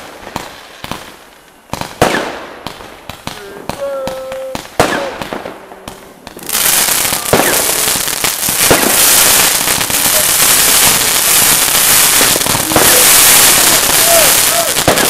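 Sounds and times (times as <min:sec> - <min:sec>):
firework bangs: 0:00.0 - 0:15.0
fireworks crackling: 0:00.0 - 0:15.0.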